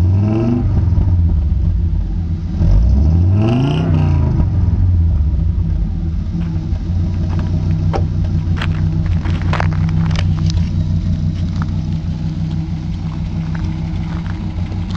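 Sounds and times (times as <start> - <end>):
engine idling with open exhaust rumble: 0.0 - 14.9.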